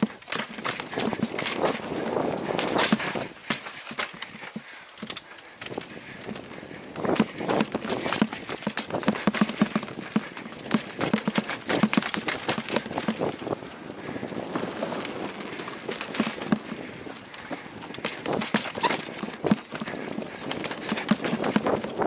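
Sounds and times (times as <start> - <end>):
mountain bike clattering over trail: 0.0 - 22.0.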